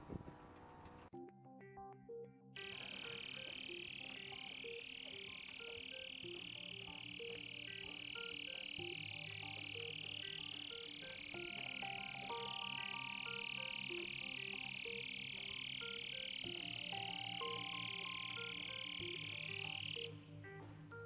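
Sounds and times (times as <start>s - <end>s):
electronic music: 1.2s - 21.0s
drones whining: 2.6s - 21.0s.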